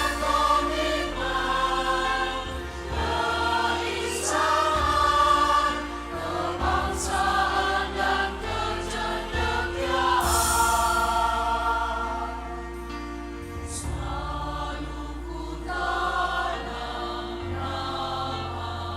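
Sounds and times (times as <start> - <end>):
choir singing long notes: 0.0 - 18.9
musical accompaniment: 0.0 - 18.9.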